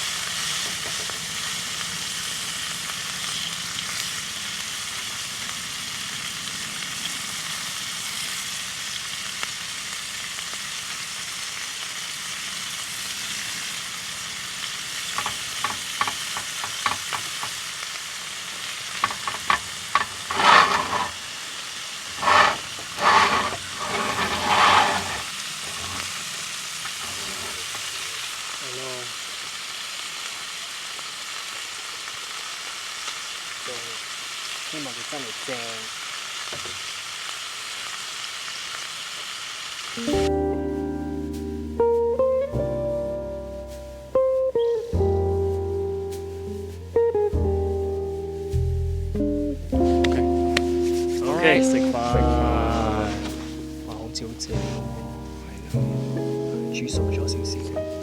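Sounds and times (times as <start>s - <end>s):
food sizzling in a skillet: 0.0s - 58.0s.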